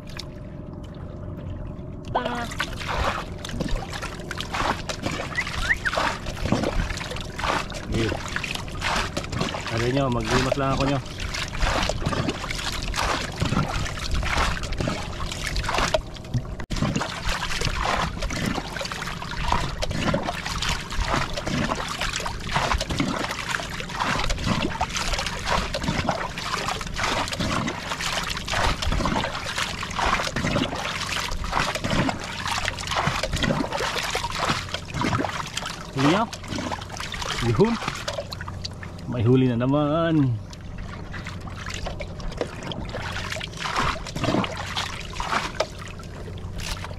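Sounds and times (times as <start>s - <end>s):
water lapping against boat: 0.0s - 46.9s
water splashes: 0.0s - 46.9s.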